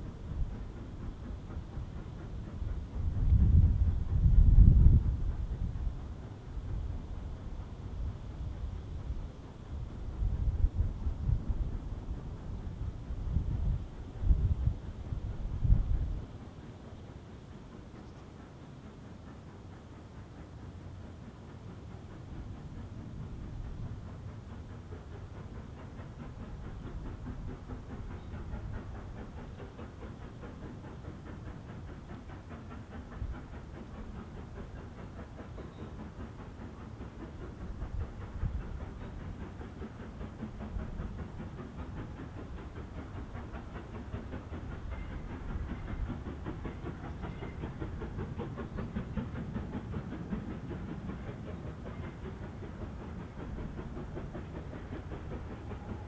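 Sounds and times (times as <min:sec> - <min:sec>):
steam locomotive steaming: 0:00.0 - 0:56.0
wheels on rails: 0:00.0 - 0:56.0.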